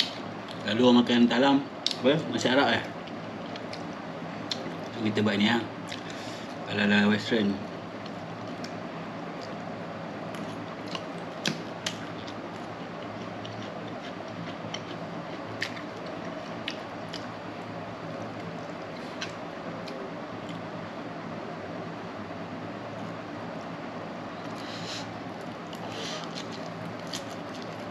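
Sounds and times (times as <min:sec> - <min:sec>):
soft eating sounds: 0:01.8 - 0:21.2, 0:22.8 - 0:27.9.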